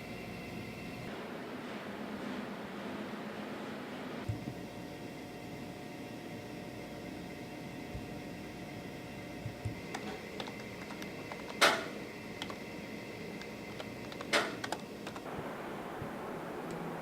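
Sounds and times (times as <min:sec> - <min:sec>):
steady room hum: 0:00.0 - 0:17.0.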